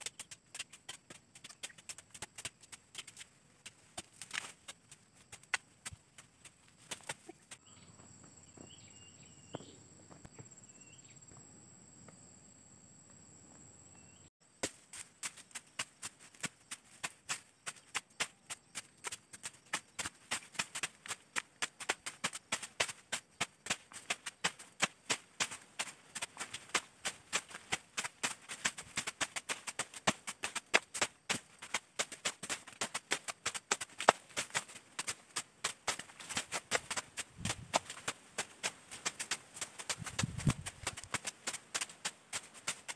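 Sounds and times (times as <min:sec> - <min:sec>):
high insect hum: 0:00.0 - 0:42.9.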